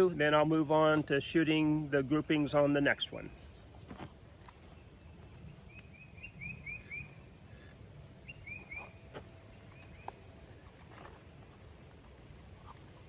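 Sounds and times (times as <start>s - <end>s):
songbird chirping: 1.3s - 12.8s.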